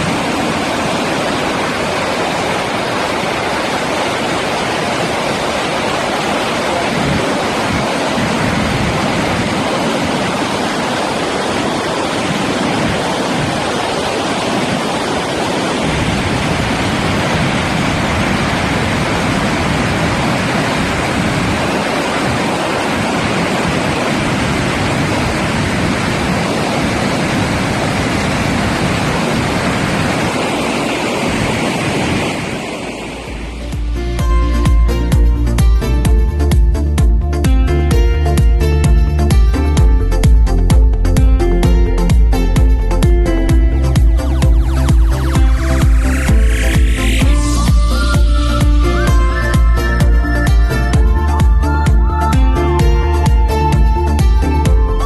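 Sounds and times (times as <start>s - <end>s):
waterfall roaring: 0.0s - 36.2s, 37.5s - 55.0s.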